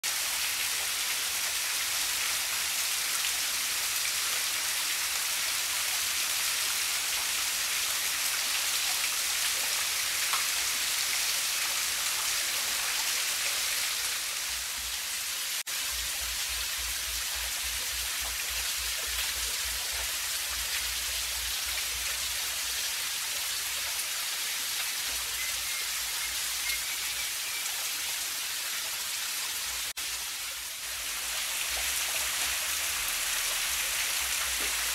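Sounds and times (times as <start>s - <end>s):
waterfall splashing: 4.9s - 34.9s.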